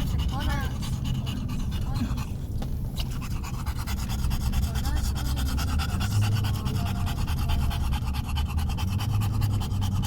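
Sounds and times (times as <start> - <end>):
car hum: 0.0 - 10.0
dog panting: 0.0 - 10.0.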